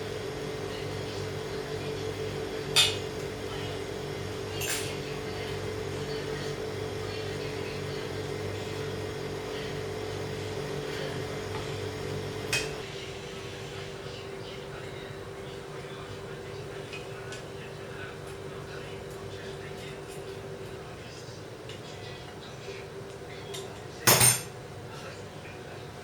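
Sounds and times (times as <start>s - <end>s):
steamer mechanical hum: 0.0s - 26.0s.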